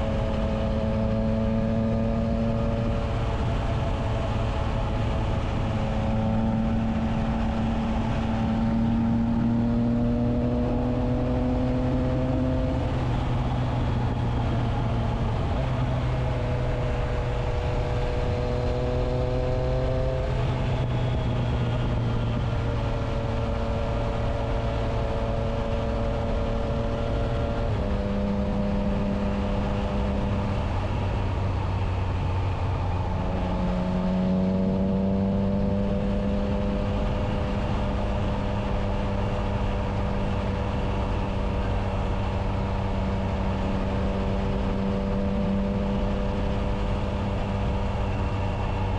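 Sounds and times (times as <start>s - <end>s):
motorcycle engine at steady throttle: 0.0s - 48.9s.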